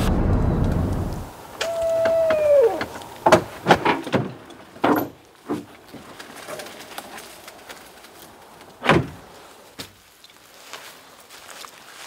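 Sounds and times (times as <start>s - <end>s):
rustling: 1.1s - 12.0s.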